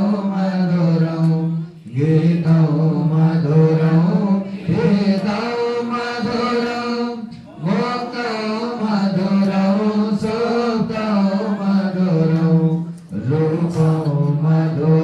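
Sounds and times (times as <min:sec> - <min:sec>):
man chanting a prayer: 0:00.0 - 0:15.0.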